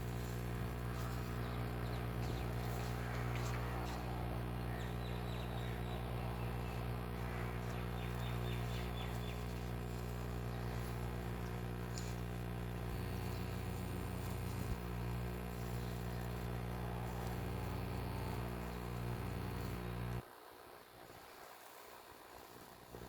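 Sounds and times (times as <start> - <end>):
low buzzing hum: 0.0 - 23.0.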